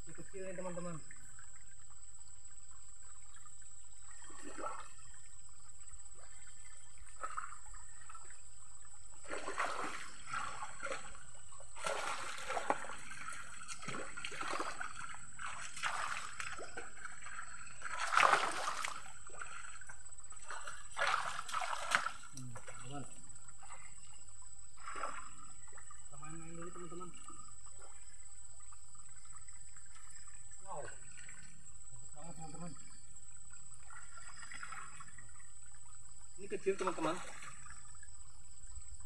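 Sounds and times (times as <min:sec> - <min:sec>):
stream water splashing: 0:00.0 - 0:39.0.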